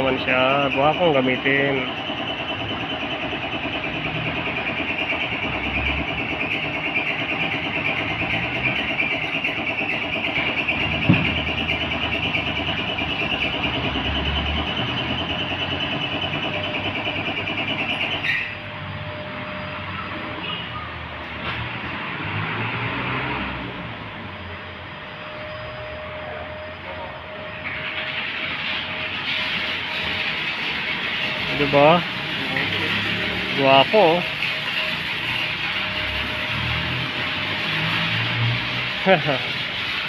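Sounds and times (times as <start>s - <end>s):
pressure washer running: 0.0s - 18.8s, 26.3s - 40.0s.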